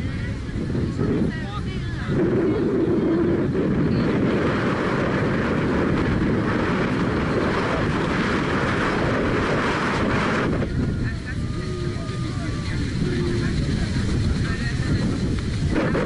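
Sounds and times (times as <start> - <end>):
boat engine: 0.0 - 16.0
wind over microphone: 0.0 - 16.0.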